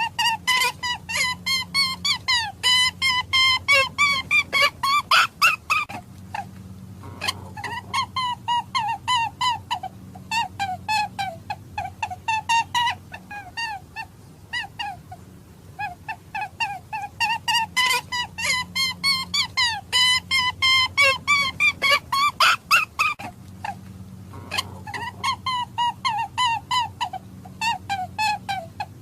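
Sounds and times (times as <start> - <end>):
high-pitched hunting calls: 0.0 - 15.0, 15.8 - 23.8, 24.4 - 29.0
faint low hum: 0.0 - 29.0.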